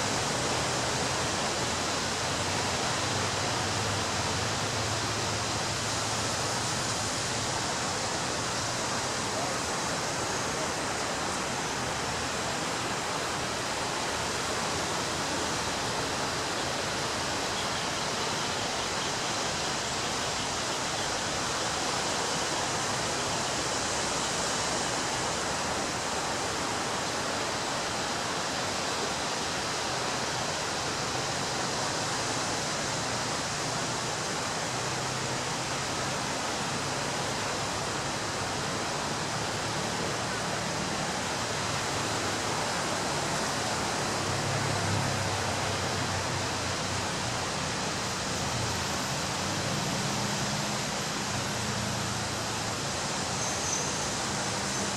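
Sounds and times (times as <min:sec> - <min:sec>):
waves breaking on a beach: 0:00.0 - 0:54.9.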